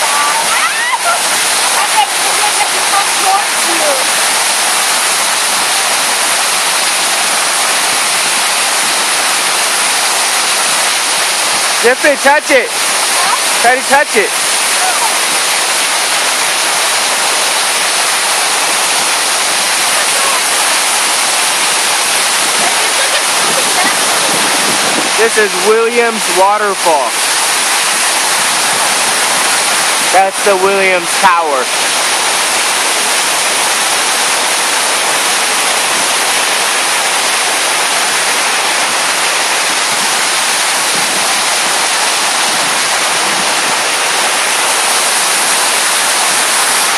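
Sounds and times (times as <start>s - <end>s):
waterfall fountain rushing: 0.0s - 46.9s.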